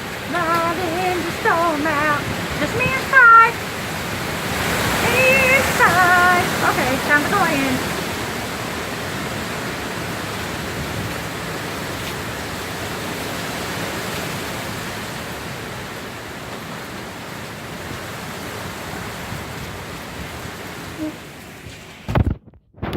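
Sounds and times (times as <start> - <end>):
heavy rain: 0.0 - 22.4
hurricane wind: 0.0 - 22.9.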